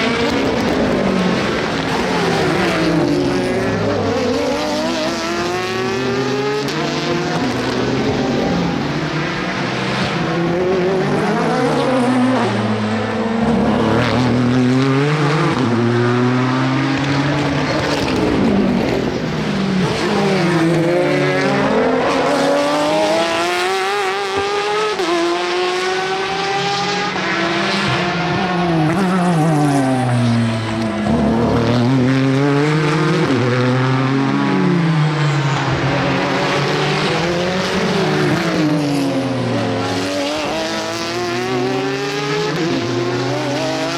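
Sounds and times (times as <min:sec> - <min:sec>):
race cars passing: 0:00.0 - 0:43.9.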